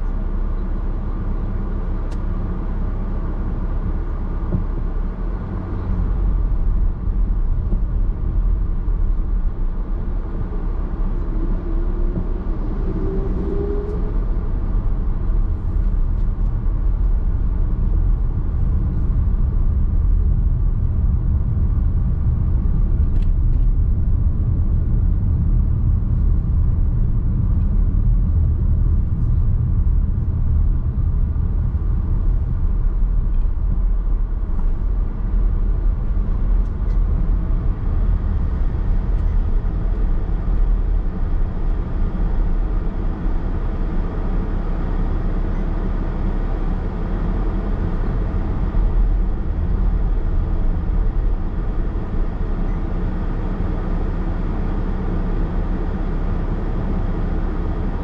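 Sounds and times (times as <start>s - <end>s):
low rumble of tyres on road: 0.0s - 58.0s.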